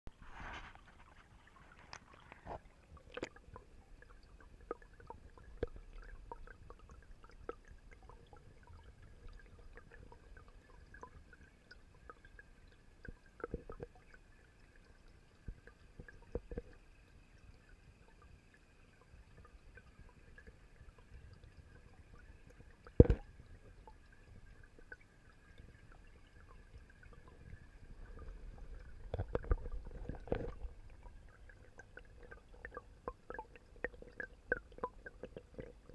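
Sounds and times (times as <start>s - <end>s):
small underwater clicks and knocks: 0.1s - 35.9s
faint underwater hum: 0.2s - 35.9s.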